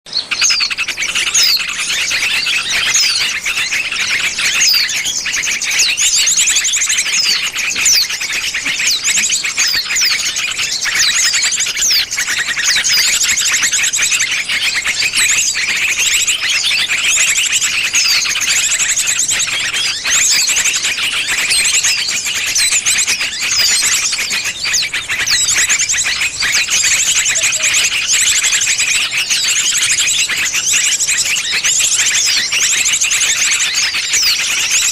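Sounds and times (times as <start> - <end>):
chorus of small birds chirping: 0.0 - 34.9.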